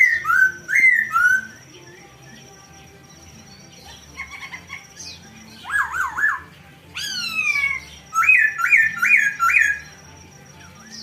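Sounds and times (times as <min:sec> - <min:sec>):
bird whistling song: 0:00.0 - 0:11.0.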